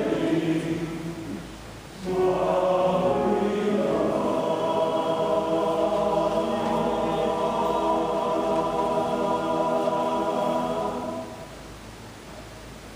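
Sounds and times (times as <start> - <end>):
mixed choir singing: 0.0 - 11.8
faint room hiss: 0.0 - 12.9.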